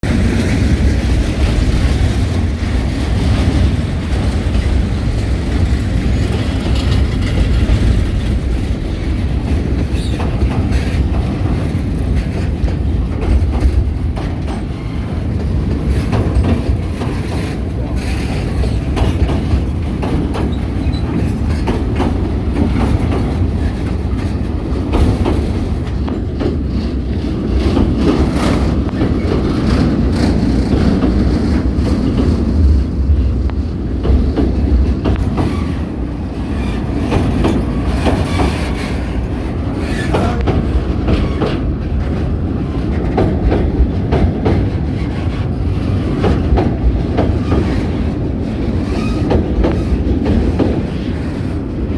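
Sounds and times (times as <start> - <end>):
train rumbling along track: 0.0 - 51.9
wheels clicking over rail joints: 0.0 - 51.9.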